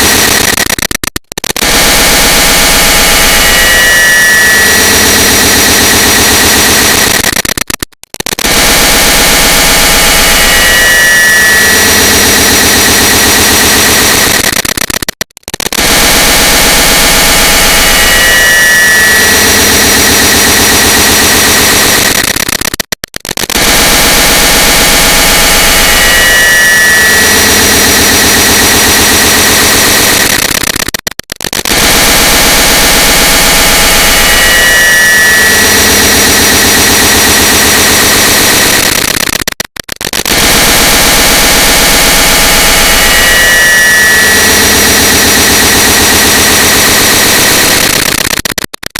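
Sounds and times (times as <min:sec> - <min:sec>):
distorted harsh click noise: 0:00.0 - 0:48.9.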